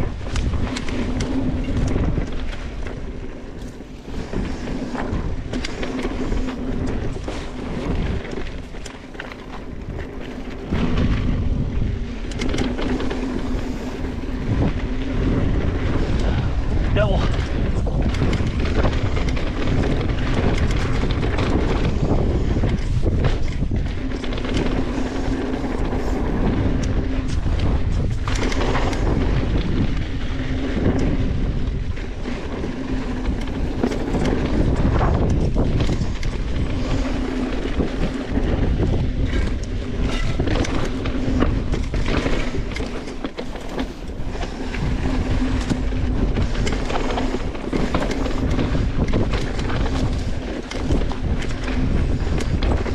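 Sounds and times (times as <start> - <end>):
bike chain rattling: 0.0 - 52.9
tyres rumbling over dirt: 0.0 - 52.9
wind buffeting microphone: 0.0 - 52.9.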